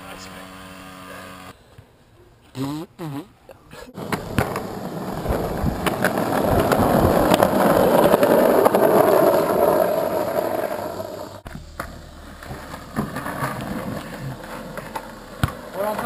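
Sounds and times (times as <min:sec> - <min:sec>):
skateboard wheels rolling on concrete: 0:00.0 - 0:01.6, 0:03.9 - 0:16.0.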